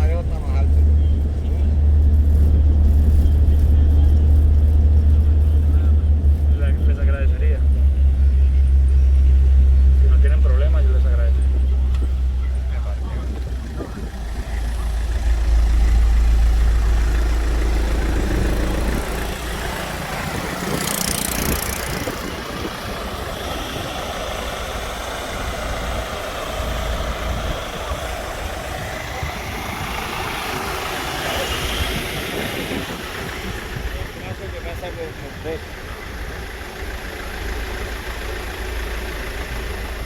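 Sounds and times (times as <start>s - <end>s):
road noise: 0.0s - 40.0s
vehicle engine running: 0.0s - 40.0s.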